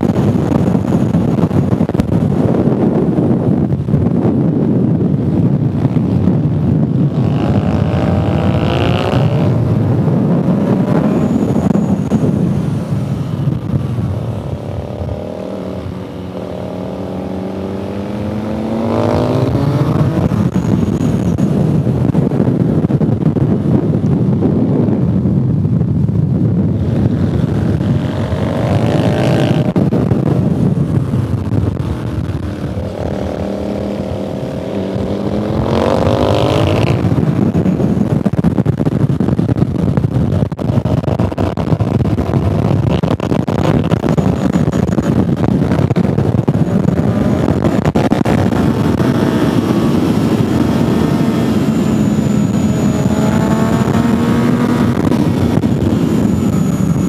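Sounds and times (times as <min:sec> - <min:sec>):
wind rushing over microphone: 0:00.0 - 0:57.0
motorcycle engine revving: 0:05.2 - 0:23.0, 0:26.7 - 0:57.0.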